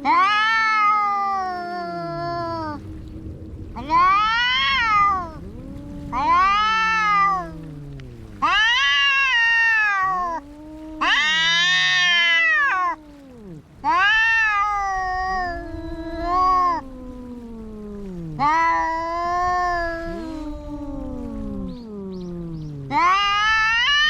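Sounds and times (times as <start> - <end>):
cats yowling in a fight: 0.0 - 2.9, 3.8 - 24.0.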